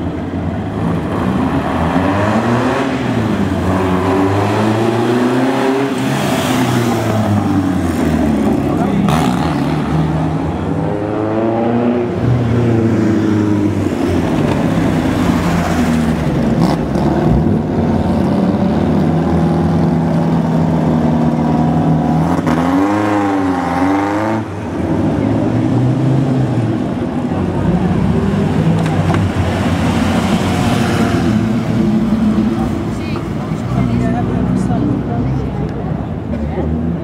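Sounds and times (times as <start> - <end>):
car engines idling and revving: 0.0 - 37.0.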